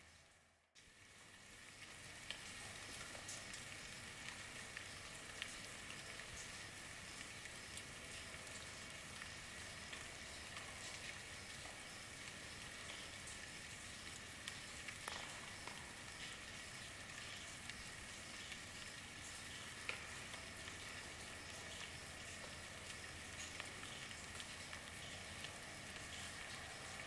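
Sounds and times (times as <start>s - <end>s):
rain hissing: 0.0s - 27.0s
raindrop ticks: 1.5s - 27.0s.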